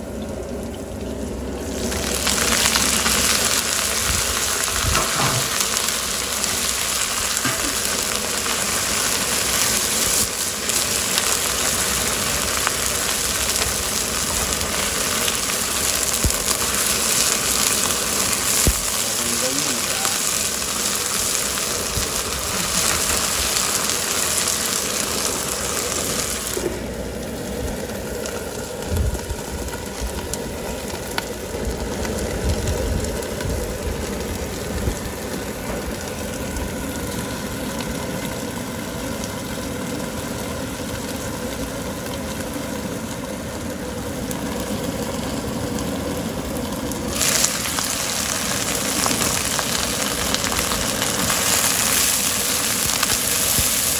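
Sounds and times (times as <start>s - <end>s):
greens sizzling in a pan: 0.0s - 53.9s
low steady rumble: 0.0s - 53.9s.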